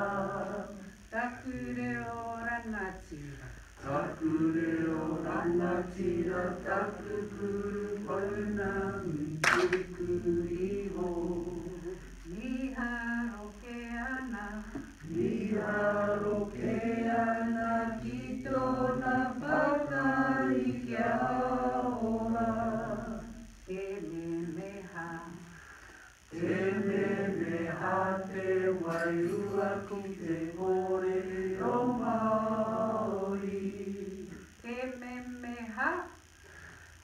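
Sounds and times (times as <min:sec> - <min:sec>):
man and woman singing: 0:00.0 - 0:25.6, 0:26.3 - 0:36.0.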